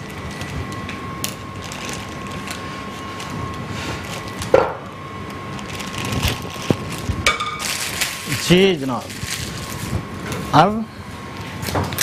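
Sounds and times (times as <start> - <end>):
plastic piping bag crinkling: 0.0 - 10.0
steady background hum: 0.0 - 12.0.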